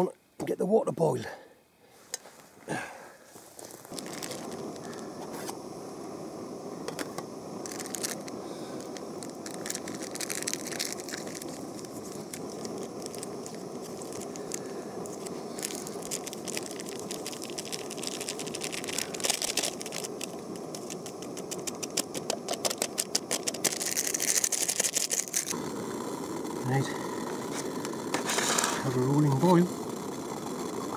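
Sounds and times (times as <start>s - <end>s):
gas stove hissing: 1.2s - 30.9s.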